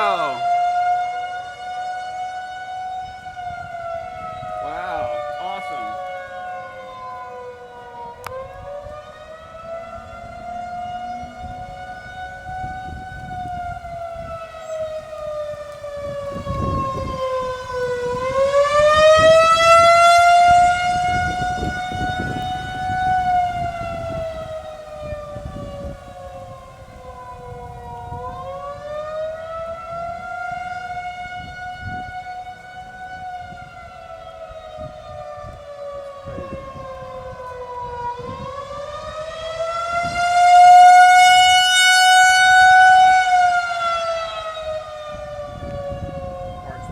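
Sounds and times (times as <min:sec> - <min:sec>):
warning siren wailing: 0:00.0 - 0:46.9.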